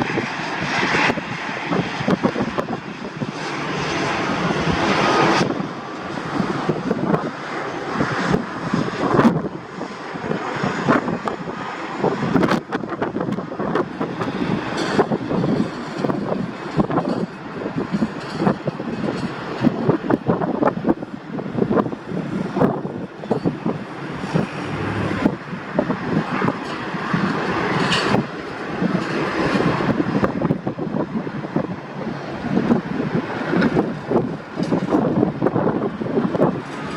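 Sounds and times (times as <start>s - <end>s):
airliner engine rumble: 0.0s - 36.9s
wind buffeting microphone: 0.0s - 36.9s.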